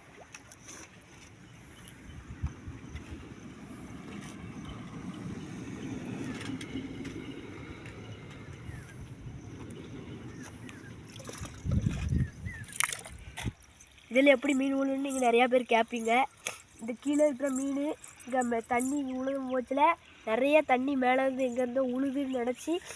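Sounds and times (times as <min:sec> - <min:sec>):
stream water running: 0:00.0 - 0:22.9.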